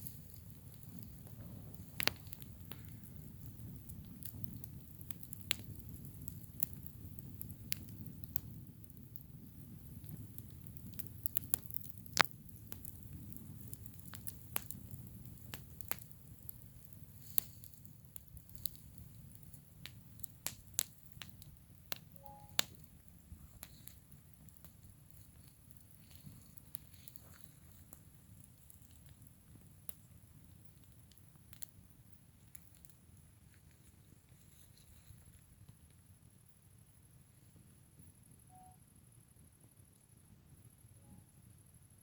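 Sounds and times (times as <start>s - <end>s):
campfire crackling: 0.0s - 36.4s.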